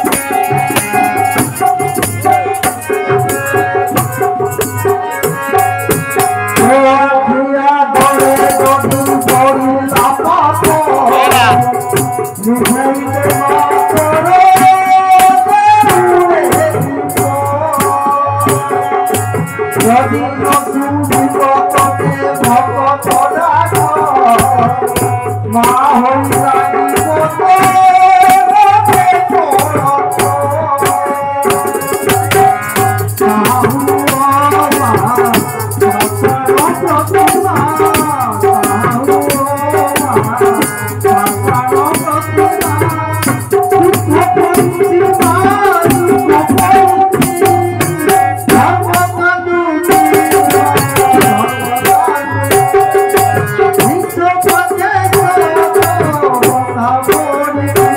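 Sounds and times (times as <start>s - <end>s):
drum beat: 0.0s - 6.9s, 8.0s - 49.2s, 49.8s - 57.9s
rattling hand percussion: 0.0s - 7.0s, 7.9s - 57.9s
man singing into microphone: 0.0s - 57.9s.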